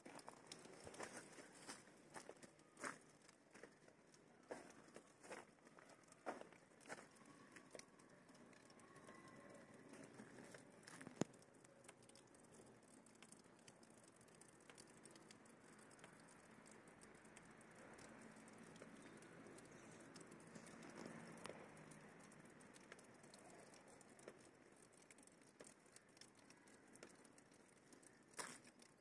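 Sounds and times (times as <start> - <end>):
small ticks: 0.0 - 29.0.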